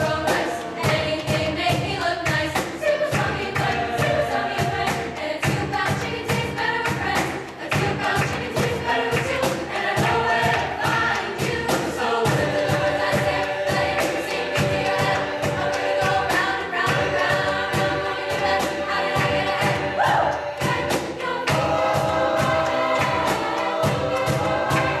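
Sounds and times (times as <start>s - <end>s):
choir singing: 0.0s - 25.0s
steady percussive beat: 0.0s - 25.0s.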